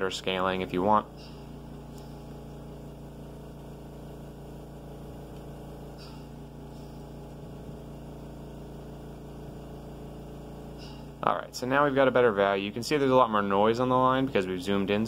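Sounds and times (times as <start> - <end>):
low buzzing hum: 0.0 - 15.0.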